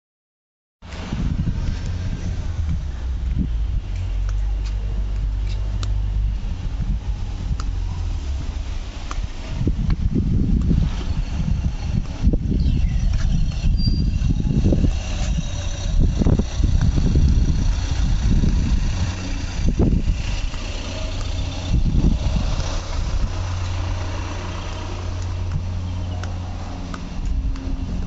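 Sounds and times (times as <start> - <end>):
low rumbles: 0.8 - 28.0
car engine idling: 0.9 - 28.0.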